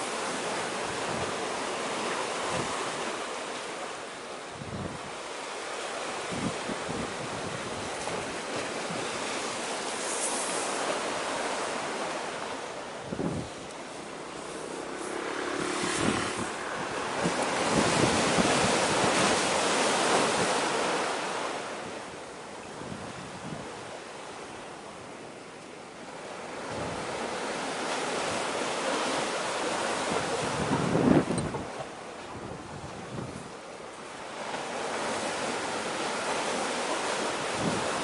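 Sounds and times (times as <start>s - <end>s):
sea waves: 0.0s - 38.0s
wind buffeting microphone: 0.4s - 3.2s, 4.5s - 5.3s, 6.1s - 10.0s, 10.7s - 23.9s, 26.6s - 33.6s, 34.4s - 38.0s.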